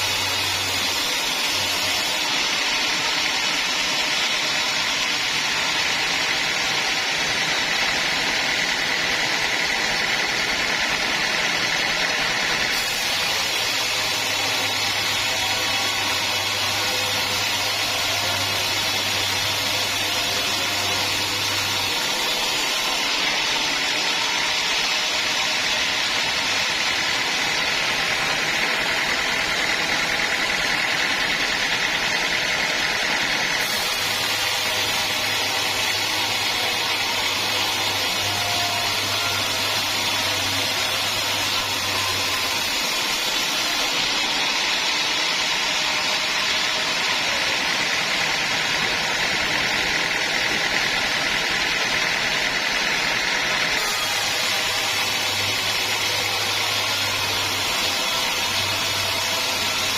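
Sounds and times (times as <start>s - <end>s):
sawmill machinery whirring: 0.0s - 59.9s.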